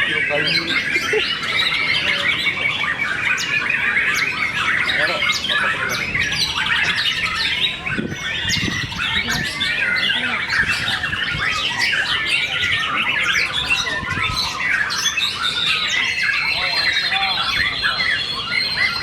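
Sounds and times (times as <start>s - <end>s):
songbirds chorus: 0.0s - 19.0s.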